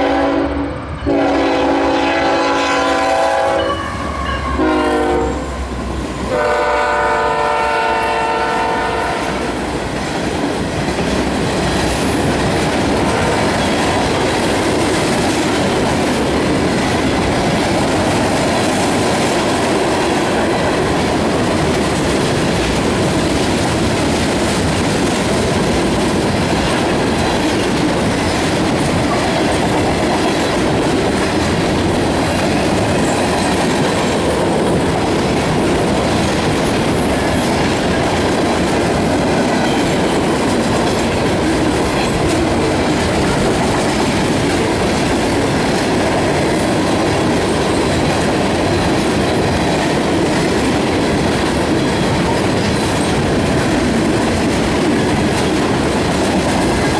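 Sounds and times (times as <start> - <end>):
freight train rumbling past: 0.0 - 56.9
steel wheels clattering on rails: 9.6 - 56.9.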